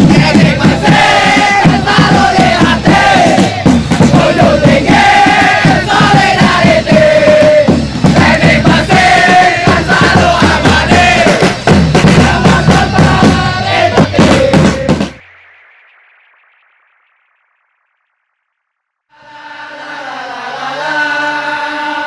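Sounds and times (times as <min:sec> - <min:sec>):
group of voices chanting: 0:00.0 - 0:15.2, 0:19.1 - 0:22.0
loud music with steady beat: 0:00.0 - 0:18.2.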